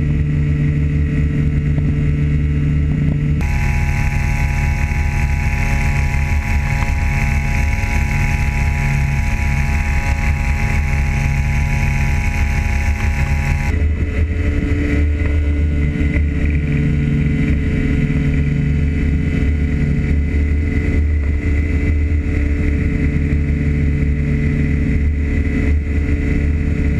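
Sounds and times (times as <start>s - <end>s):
two-stroke engine running: 0.0s - 26.9s.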